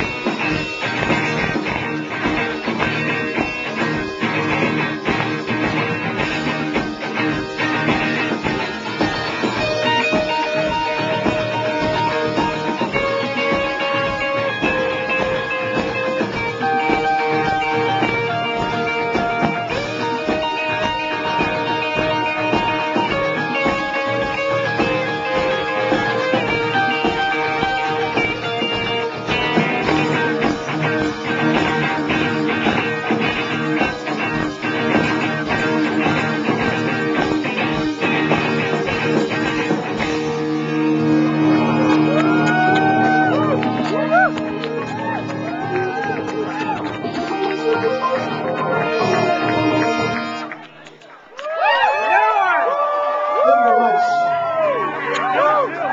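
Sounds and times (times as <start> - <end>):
strummed electric guitar: 0.0 - 50.8
rock band playing live: 0.0 - 50.9.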